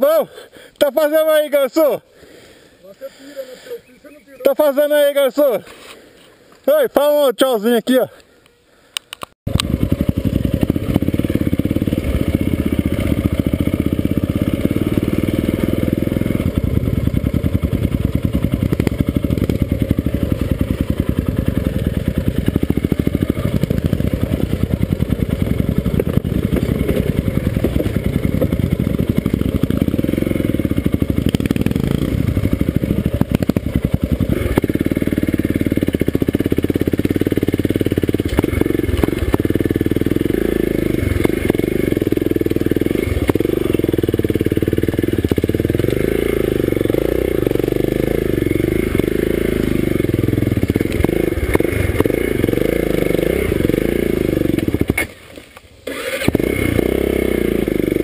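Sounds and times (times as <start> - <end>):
motorcycle engine running: 9.5 - 55.2, 55.8 - 58.0.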